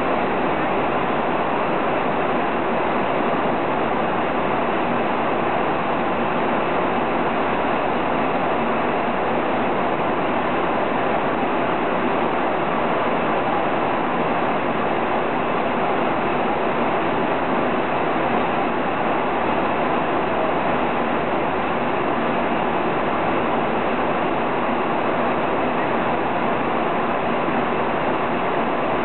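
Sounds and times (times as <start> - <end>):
airliner cabin engine rush: 0.0 - 29.0.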